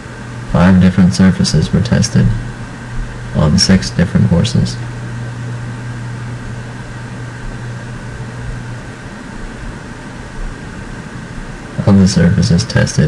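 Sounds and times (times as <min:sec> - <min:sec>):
low hum: 0:00.0 - 0:13.0
steady background hiss: 0:00.0 - 0:13.0.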